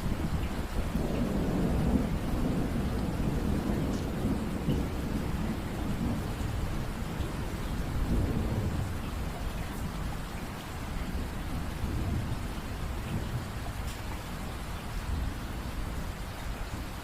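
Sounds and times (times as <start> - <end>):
distant thunder rumbling: 0.0 - 17.0
steady rain: 0.0 - 17.0.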